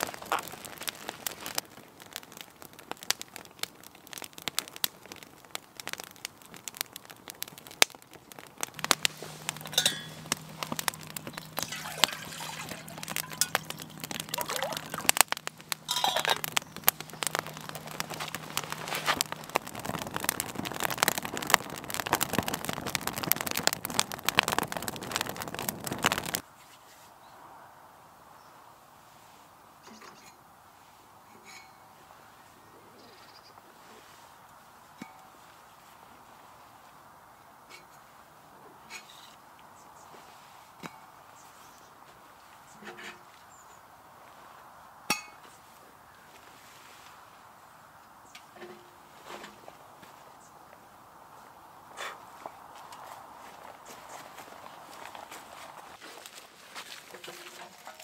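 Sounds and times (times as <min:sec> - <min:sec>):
campfire crackling and popping: 0:00.0 - 0:26.6, 0:33.5 - 0:58.0.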